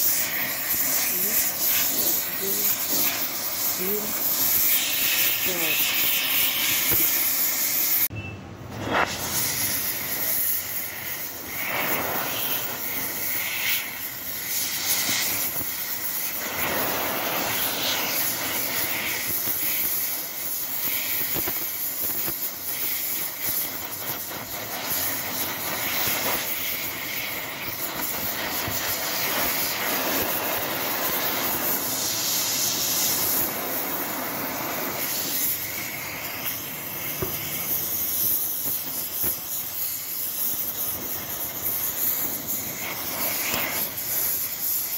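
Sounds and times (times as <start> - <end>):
welding arc noise: 0.0 - 44.9.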